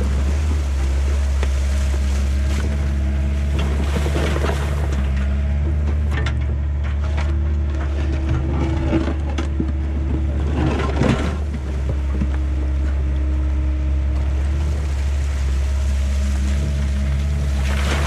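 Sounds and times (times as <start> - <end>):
bucket scraping and clattering: 0.0 - 13.0, 14.2 - 18.0
excavator diesel engine running: 0.0 - 18.0.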